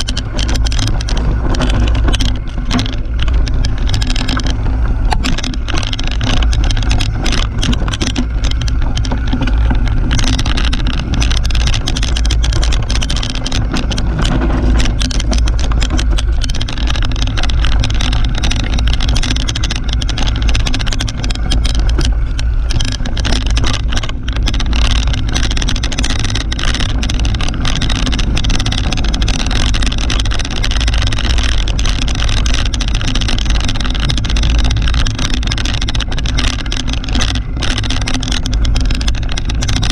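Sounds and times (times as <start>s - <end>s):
bike rattling over bumps: 0.0s - 39.9s
tyres on dirt: 0.0s - 39.9s
wind rumble on microphone: 0.0s - 39.9s.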